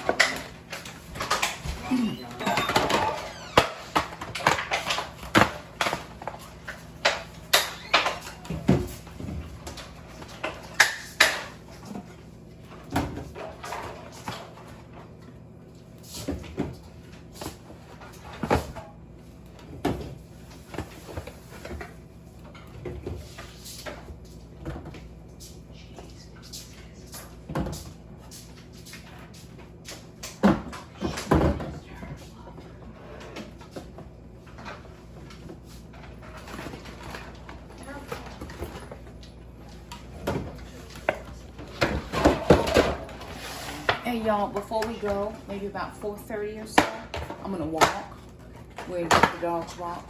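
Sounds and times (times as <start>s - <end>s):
groceries and containers clattering: 0.0s - 25.7s, 26.4s - 50.0s.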